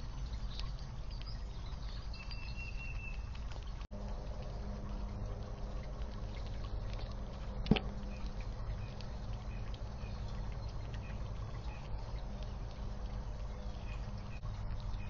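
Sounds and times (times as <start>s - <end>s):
background hum: 0.0s - 15.0s
squirrel chewing nuts: 0.0s - 15.0s.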